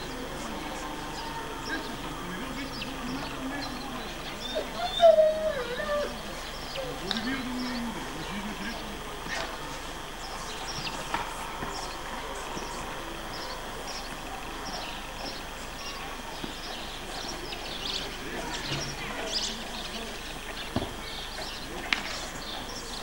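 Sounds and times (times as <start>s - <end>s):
small birds chirping: 0.0s - 23.0s
steady hiss: 0.0s - 23.0s.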